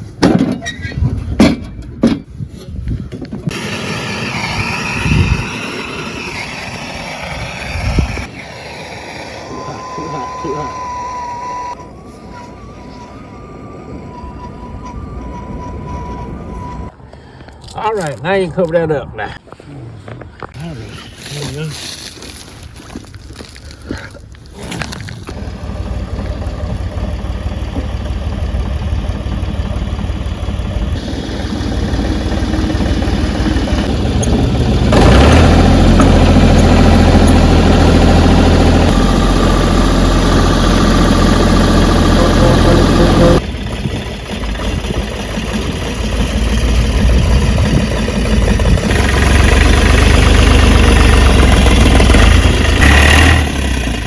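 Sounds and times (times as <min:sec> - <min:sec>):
engine running under changing load: 0:03.4 - 0:18.2, 0:24.4 - 0:54.0.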